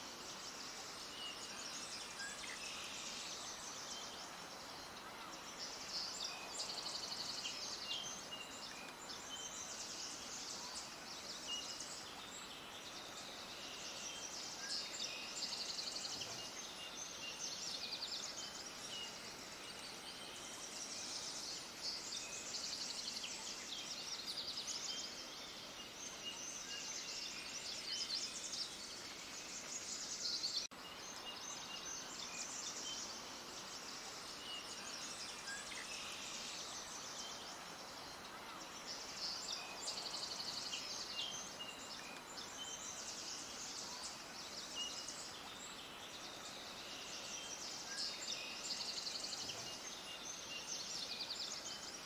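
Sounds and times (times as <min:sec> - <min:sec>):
small birds chirping: 0:00.0 - 0:52.0
steady outdoor hiss: 0:00.0 - 0:52.0.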